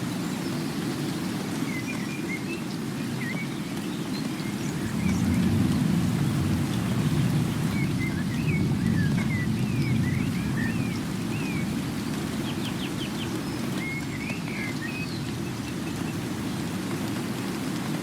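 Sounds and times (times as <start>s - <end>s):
small birds chirping: 0.0s - 17.5s
rain or running water rushing: 0.0s - 18.0s.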